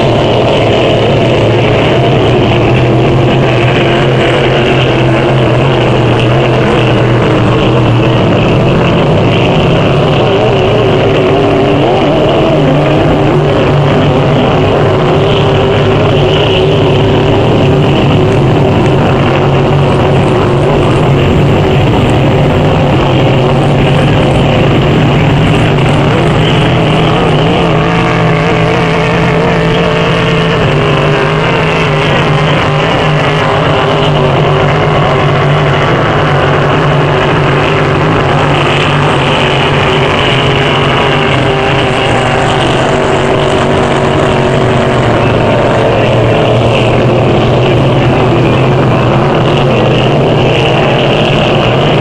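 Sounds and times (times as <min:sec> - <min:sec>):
racing boat engines at speed: 0:00.0 - 0:52.0.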